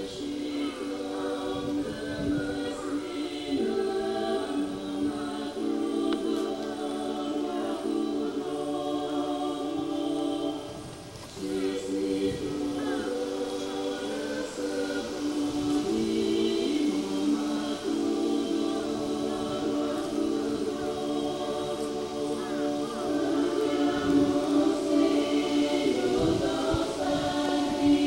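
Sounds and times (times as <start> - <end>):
choir singing held chords: 0.0 - 28.0.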